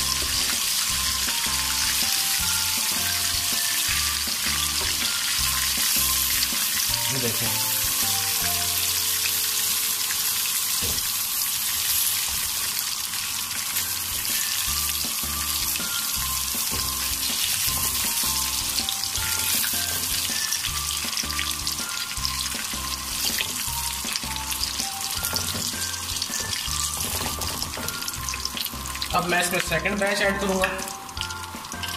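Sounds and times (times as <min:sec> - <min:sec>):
background music with low beat: 0:00.0 - 0:08.7, 0:14.0 - 0:31.9
hot oil sizzling in a wok: 0:00.0 - 0:31.9.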